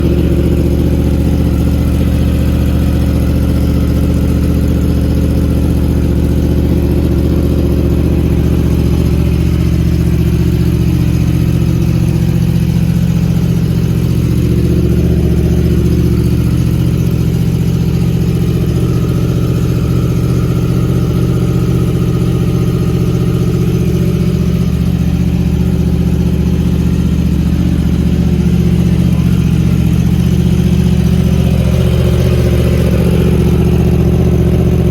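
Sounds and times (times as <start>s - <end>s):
engine humming steadily: 0.0s - 34.9s.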